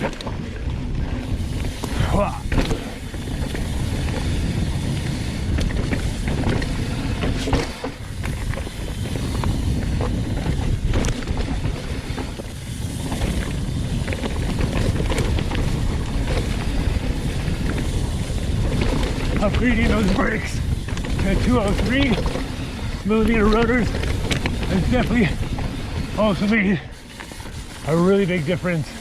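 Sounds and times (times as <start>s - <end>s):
bike clicks and rattles: 0.0s - 29.0s
bike tyres on dirt: 0.0s - 29.0s
wind buffeting microphone: 0.0s - 29.0s.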